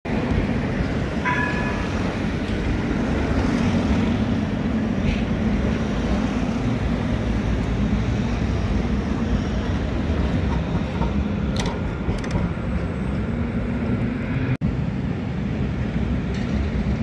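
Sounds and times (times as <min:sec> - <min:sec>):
road traffic: 0:00.0 - 0:17.0
tram rumbling: 0:00.1 - 0:17.0.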